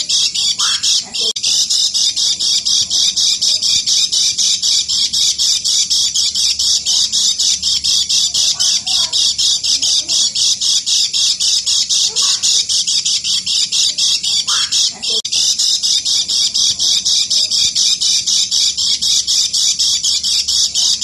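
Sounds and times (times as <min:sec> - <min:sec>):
bird shrill fast chatter: 0:00.0 - 0:21.0.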